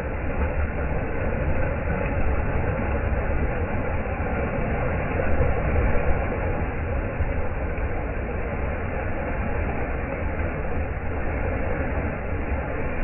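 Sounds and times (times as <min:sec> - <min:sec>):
surf washing on beach: 0:00.0 - 0:13.0.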